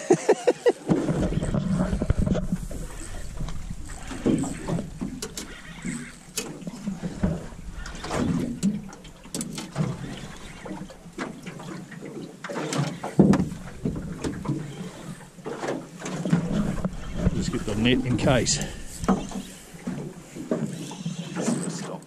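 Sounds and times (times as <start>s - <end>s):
wind and water against hull: 0.0s - 22.0s.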